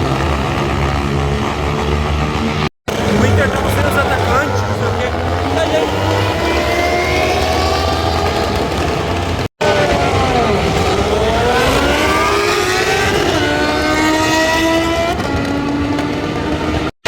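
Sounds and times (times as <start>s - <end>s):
motorcycle engine under load: 0.0s - 16.9s.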